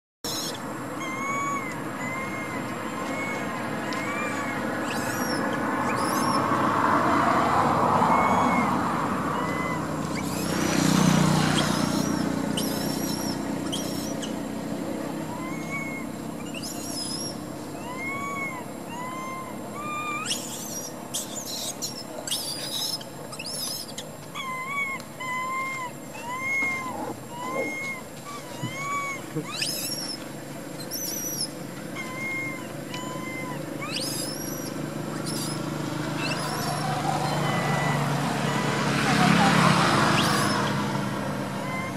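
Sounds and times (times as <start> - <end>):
baby monkey whimpering coos: 0.3 - 6.5, 8.0 - 14.4, 15.2 - 30.2, 30.8 - 39.5, 40.2 - 40.7, 41.6 - 41.9.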